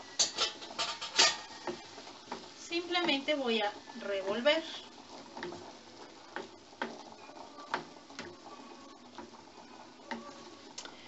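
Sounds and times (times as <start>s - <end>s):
wooden spoon scraping a pan: 0.0s - 10.8s.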